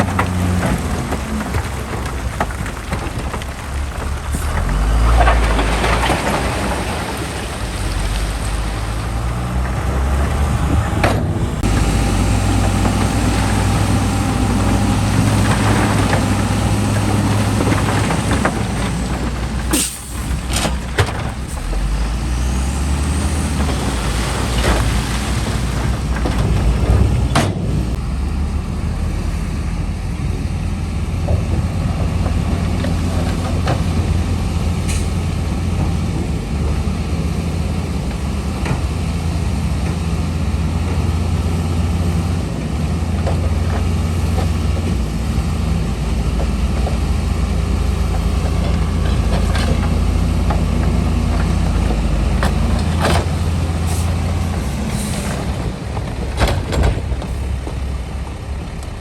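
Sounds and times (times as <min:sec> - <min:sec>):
diesel construction machinery droning: 0:00.0 - 0:59.0.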